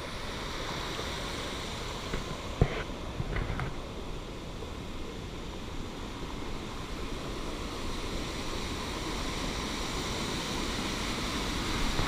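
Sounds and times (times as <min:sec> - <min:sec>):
rushing mountain stream: 0:00.0 - 0:12.0.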